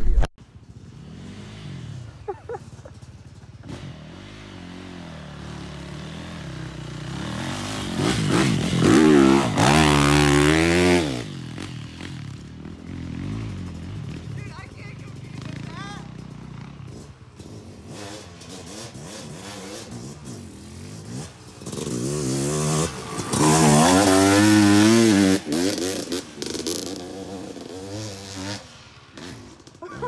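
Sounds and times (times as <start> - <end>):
dirt bike engine revving: 3.3 - 30.0.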